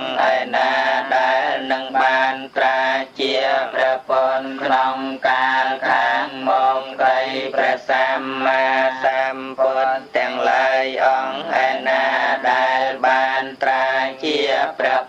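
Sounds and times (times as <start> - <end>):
person chanting in monotone: 0.0 - 15.0.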